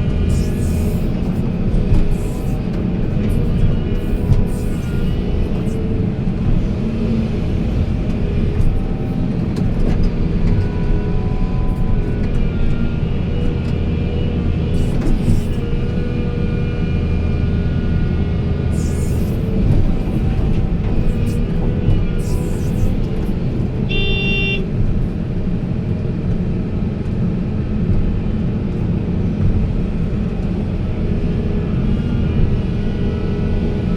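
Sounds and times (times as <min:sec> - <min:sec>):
diesel engine rumbling: 0:00.0 - 0:33.9.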